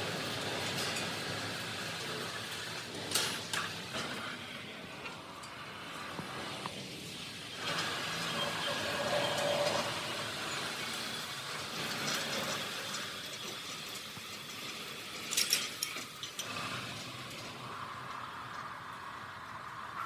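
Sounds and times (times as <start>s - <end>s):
mechanical workshop noise: 0.0s - 20.0s.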